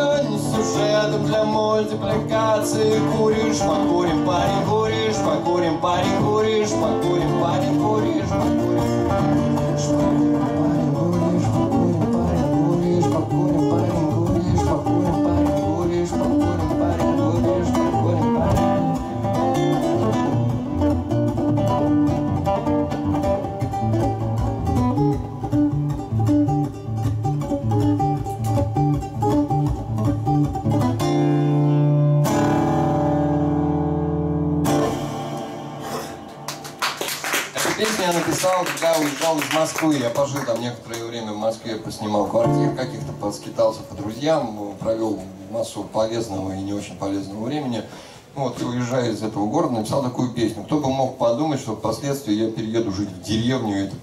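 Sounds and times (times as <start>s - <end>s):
classical guitar playing: 0.0s - 37.6s, 39.6s - 47.0s.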